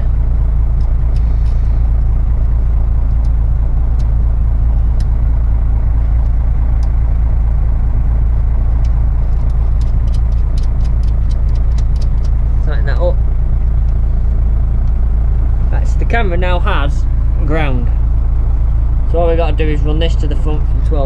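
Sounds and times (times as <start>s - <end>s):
diesel bus engine idling: 0.0s - 21.0s.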